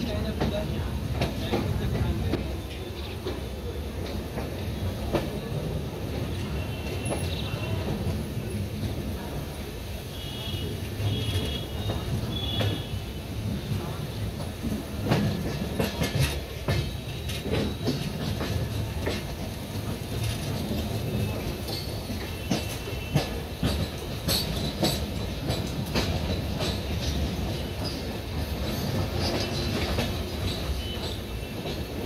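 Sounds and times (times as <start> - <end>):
train wheels rumbling on rails: 0.0 - 32.0
wheels clacking over rail joints: 0.0 - 32.0.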